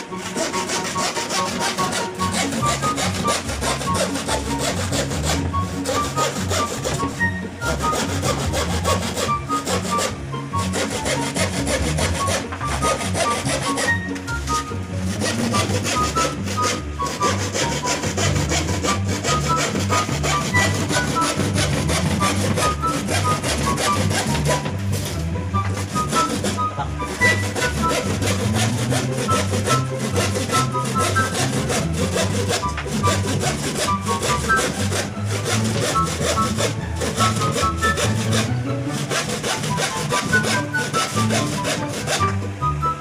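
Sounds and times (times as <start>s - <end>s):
hand saw cutting plywood: 0.0s - 43.0s.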